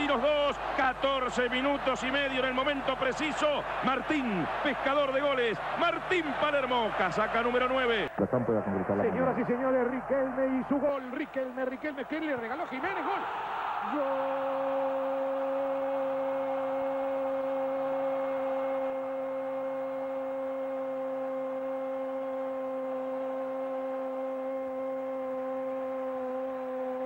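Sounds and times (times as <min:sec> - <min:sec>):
crowd noise: 0:00.0 - 0:27.0.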